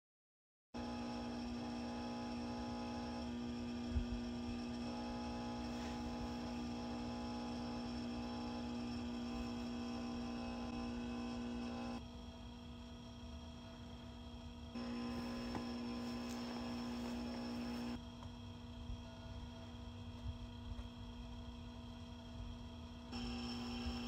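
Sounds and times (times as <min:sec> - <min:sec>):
steady hum of held tones: 0:00.8 - 0:24.0.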